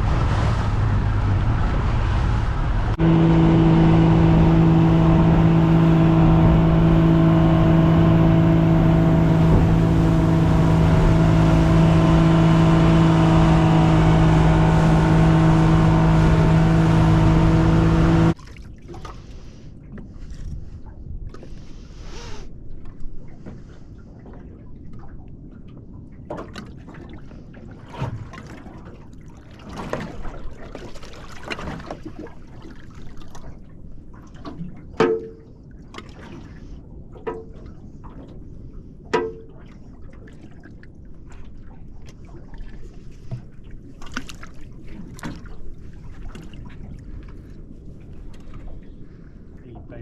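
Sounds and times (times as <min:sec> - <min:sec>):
water lapping against boat hull: 0:02.9 - 0:50.0.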